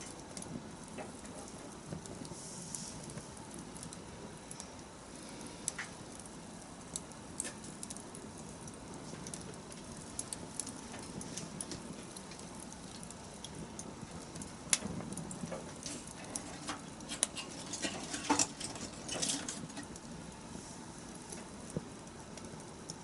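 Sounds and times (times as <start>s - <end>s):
fire crackles and pops: 0.0s - 23.0s
low rush of flame: 0.0s - 23.0s.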